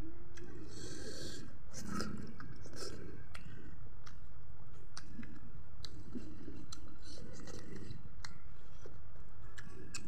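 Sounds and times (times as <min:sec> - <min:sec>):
wet chewing: 0:01.8 - 0:10.0.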